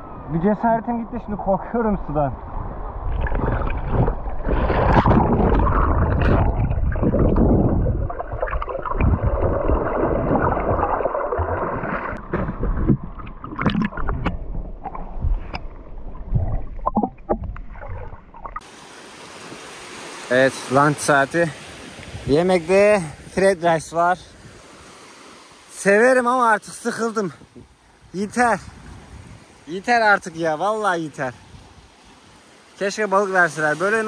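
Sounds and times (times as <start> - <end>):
muffled wind and water rushing: 0.0 - 34.0.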